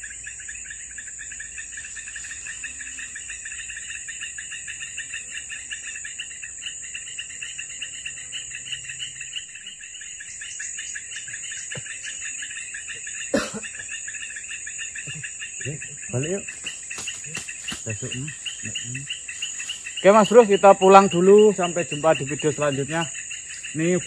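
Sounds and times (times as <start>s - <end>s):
insects buzzing and chirping: 0.0s - 24.0s.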